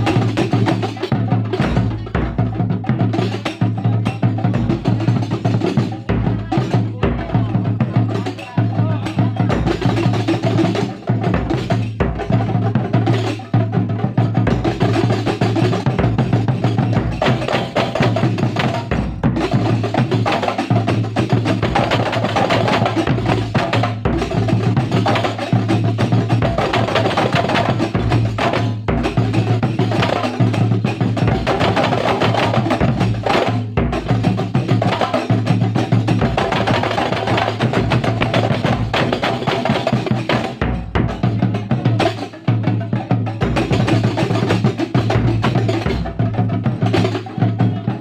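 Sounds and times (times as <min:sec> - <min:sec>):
frame drums beaten fast: 0:00.0 - 0:48.0.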